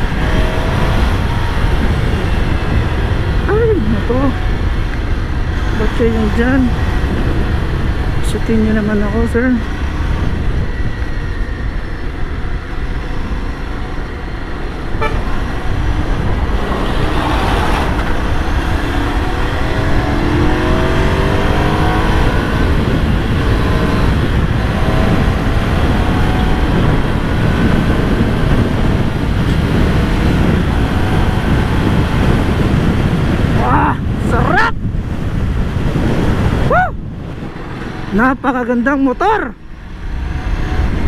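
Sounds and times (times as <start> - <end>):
motorcycle engine accelerating: 0.0 - 41.0
wind rush on microphone: 0.0 - 41.0.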